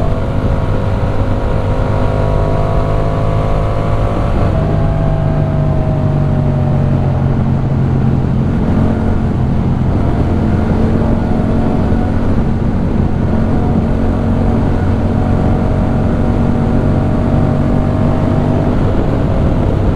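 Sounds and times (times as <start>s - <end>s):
motorcycle engine running steadily: 0.0s - 19.9s.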